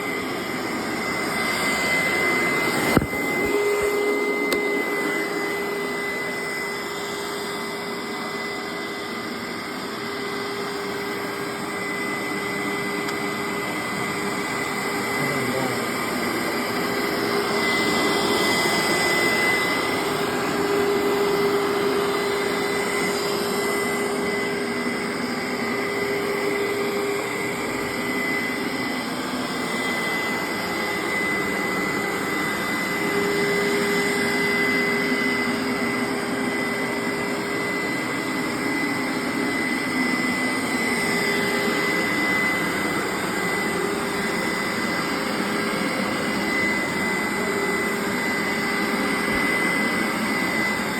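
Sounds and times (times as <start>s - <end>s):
carpet cleaner motor whining: 0.0s - 50.9s.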